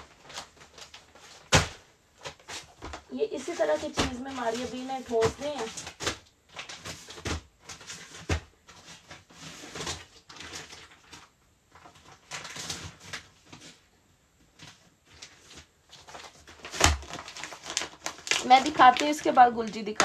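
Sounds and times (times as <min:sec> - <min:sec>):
rustling of plastic-packed clothes: 0:00.0 - 0:20.0.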